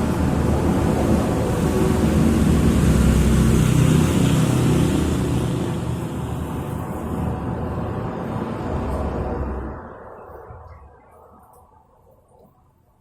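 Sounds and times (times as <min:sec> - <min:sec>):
vehicle engine passing by: 0:00.0 - 0:10.5.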